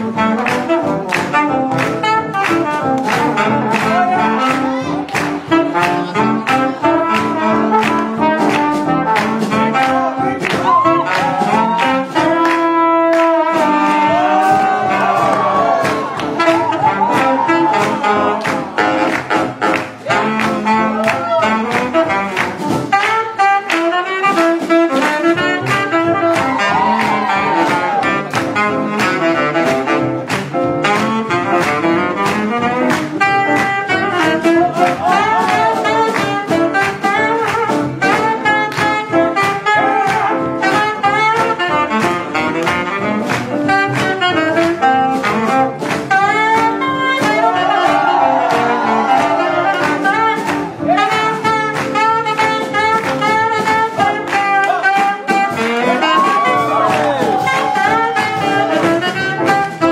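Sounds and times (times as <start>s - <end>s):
swing jazz band playing: 0.0s - 59.9s.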